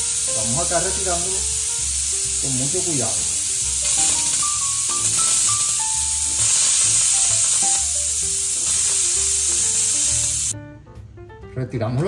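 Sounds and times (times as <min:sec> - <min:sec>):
pressure cooker steam hissing: 0:00.0 - 0:10.6.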